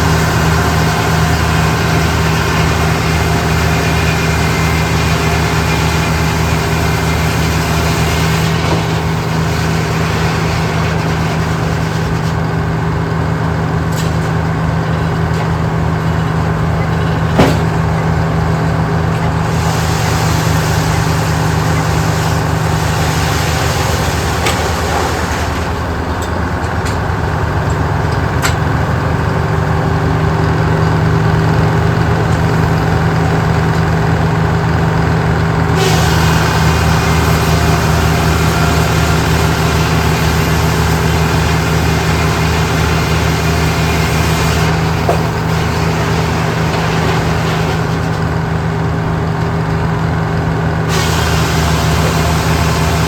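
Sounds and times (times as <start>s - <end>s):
heavy engine running: 0.0s - 53.0s.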